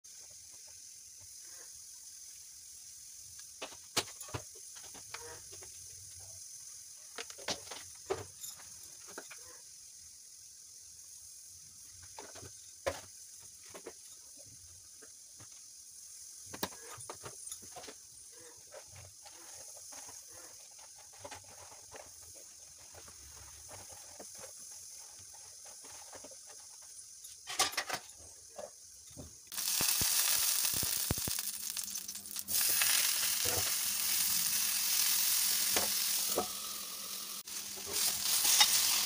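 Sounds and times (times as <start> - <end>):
steady hiss: 0.1 - 39.0.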